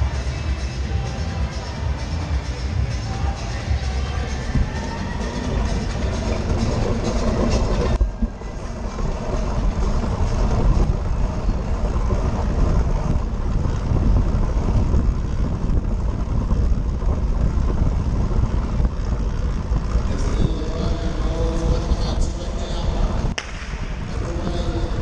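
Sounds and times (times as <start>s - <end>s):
wind buffeting microphone: 2.8s - 25.0s.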